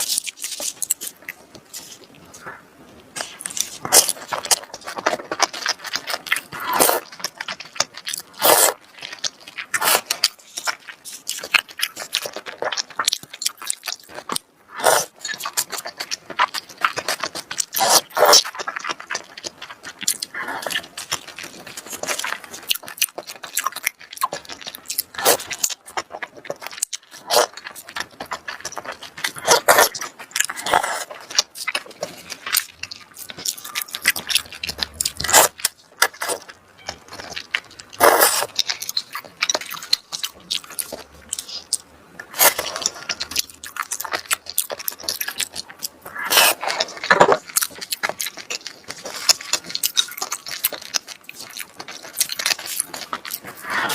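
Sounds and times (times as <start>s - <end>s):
chewing and crunching seafood: 0.0s - 53.9s.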